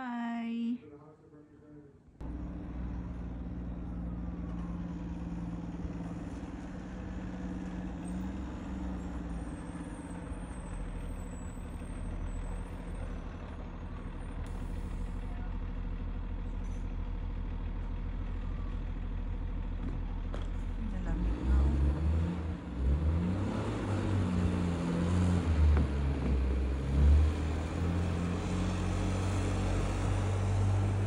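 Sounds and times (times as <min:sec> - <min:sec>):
vehicle engine droning: 0:02.2 - 0:31.0.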